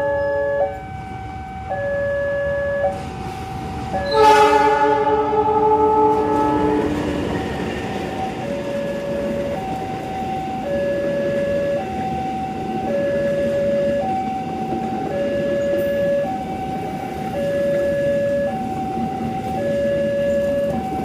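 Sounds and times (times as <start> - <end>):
rail noise rumble: 0.0 - 21.0
two-tone electronic warning alarm: 0.0 - 21.0.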